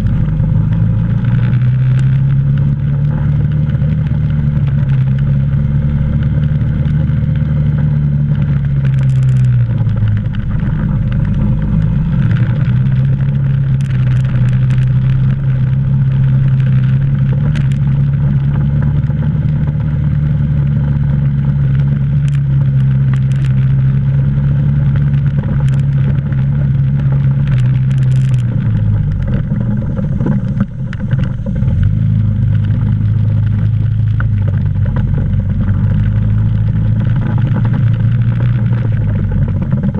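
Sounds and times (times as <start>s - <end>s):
quad bike engine running: 0.0s - 39.9s
sharp clicks and rattles: 0.0s - 39.9s.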